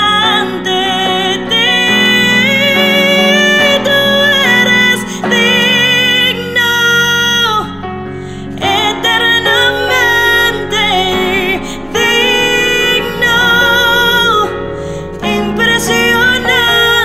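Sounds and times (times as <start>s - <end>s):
keyboard accompaniment: 0.0s - 17.0s
woman singing: 0.0s - 17.0s.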